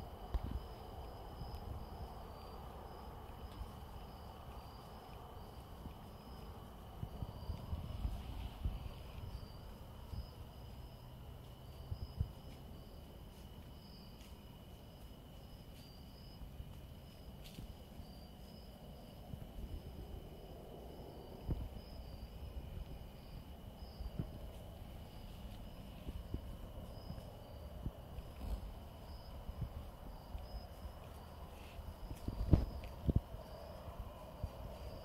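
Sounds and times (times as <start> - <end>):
insects buzzing: 0.0 - 35.0
short insect chirp: 0.0 - 35.0.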